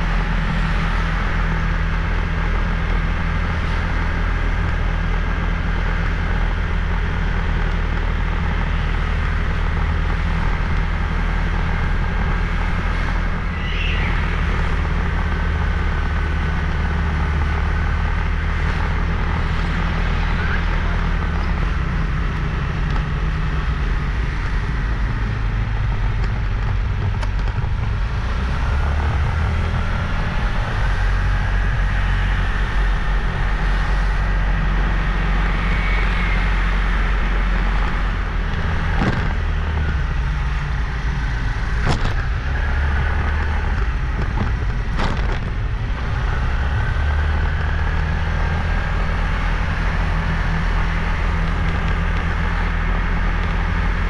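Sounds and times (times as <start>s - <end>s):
motorbike engine rumble: 0.0s - 54.0s.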